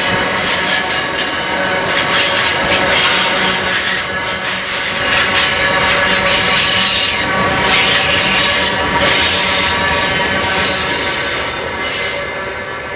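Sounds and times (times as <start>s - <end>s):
freight train wheels rumbling on rails: 0.0s - 12.9s.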